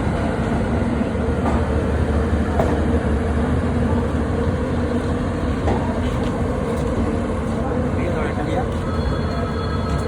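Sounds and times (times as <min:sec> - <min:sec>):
train running: 0:00.0 - 0:10.0.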